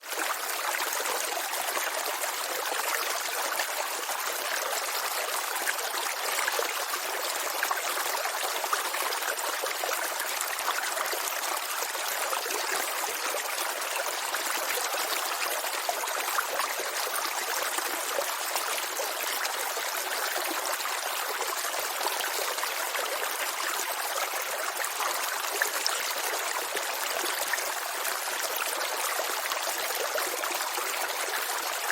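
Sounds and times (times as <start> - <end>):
brook water babbling over stones: 0.0 - 31.9.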